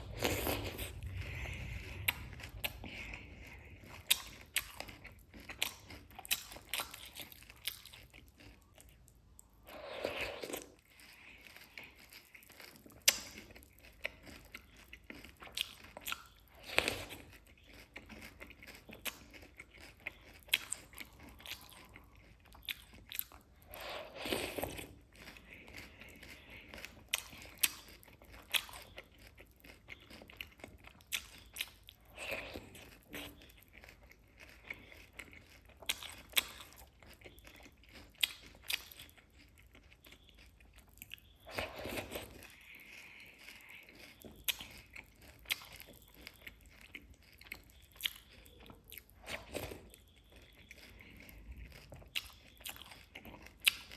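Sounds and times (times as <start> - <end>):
person chewing crunchy cake: 0.0 - 53.9.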